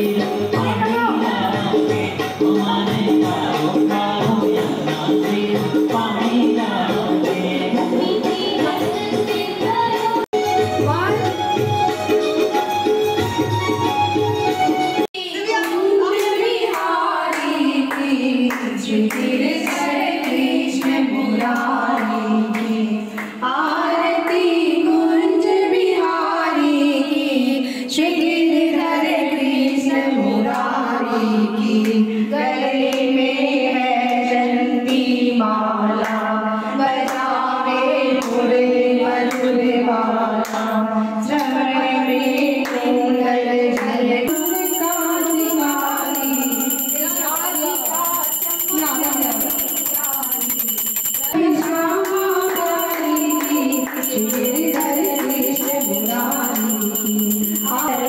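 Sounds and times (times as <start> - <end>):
women singing devotional song: 0.0 - 11.1, 15.1 - 58.0.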